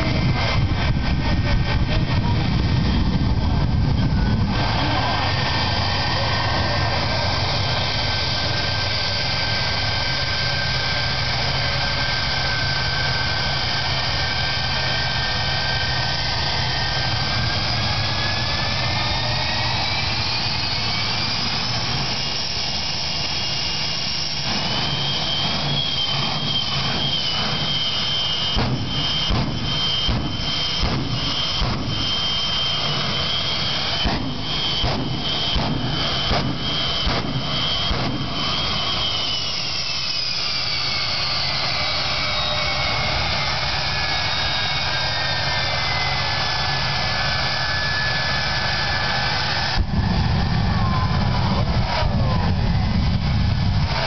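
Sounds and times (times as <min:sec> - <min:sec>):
turbine engine whine: 0:00.0 - 0:54.0.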